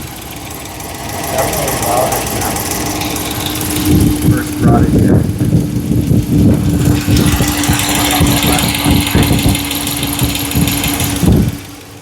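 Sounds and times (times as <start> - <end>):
engine idling: 0.0 - 12.0
rapid engine ticking: 0.0 - 12.0.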